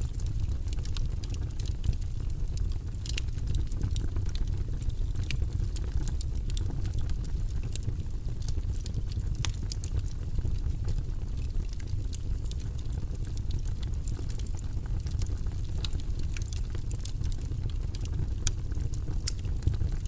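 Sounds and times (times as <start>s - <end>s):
fire low rumble: 0.0s - 20.0s
wood fire crackling: 0.0s - 20.0s.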